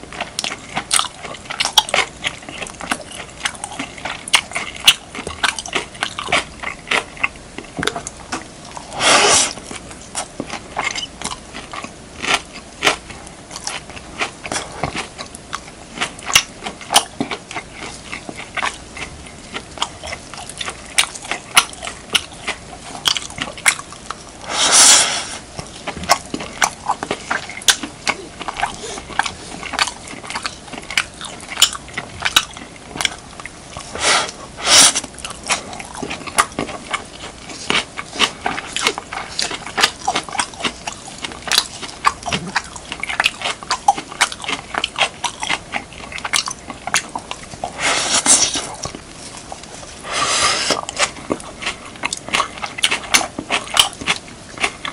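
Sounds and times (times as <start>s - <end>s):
wet chewing mouth clicks: 0.2s - 54.9s.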